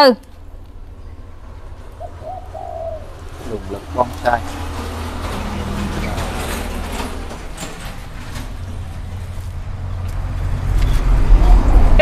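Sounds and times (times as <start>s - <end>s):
low engine rumble: 0.2s - 12.0s.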